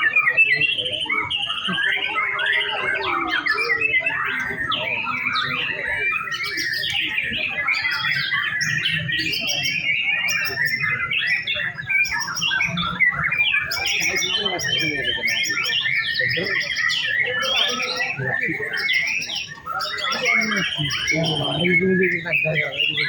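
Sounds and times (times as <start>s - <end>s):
birds singing whistled phrases: 0.0s - 23.0s.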